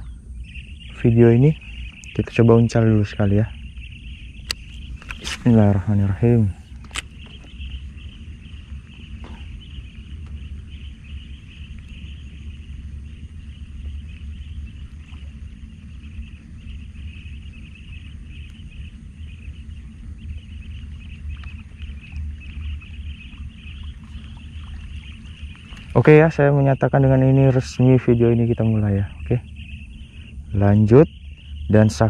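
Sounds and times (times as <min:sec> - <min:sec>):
insects chirring: 0:00.0 - 0:32.0
low continuous rumble: 0:00.0 - 0:32.0.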